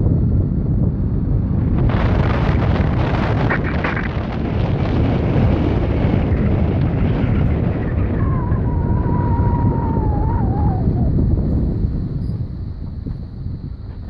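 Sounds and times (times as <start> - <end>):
car engine and tyre rumble: 0.0 - 14.0
wind buffeting microphone: 0.0 - 14.0.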